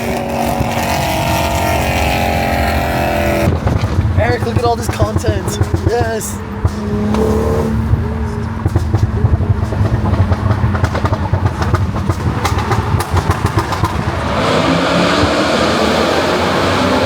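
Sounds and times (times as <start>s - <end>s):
car accelerating close by: 0.0s - 17.0s
sharp exhaust pops: 0.0s - 17.0s
sports car engines revving: 0.0s - 17.0s.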